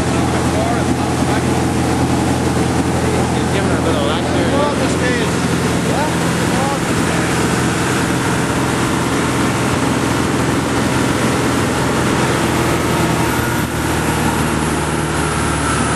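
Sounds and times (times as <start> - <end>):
boat engine running: 0.0 - 15.9
rush of wind and water: 0.0 - 15.9.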